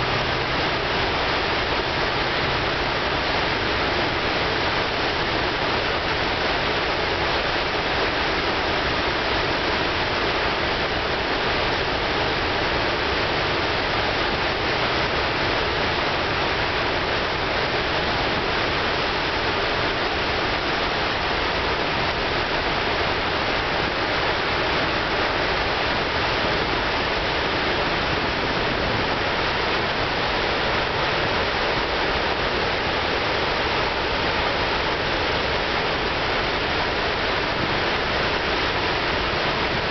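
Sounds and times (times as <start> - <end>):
rushing water over falls: 0.0 - 39.9.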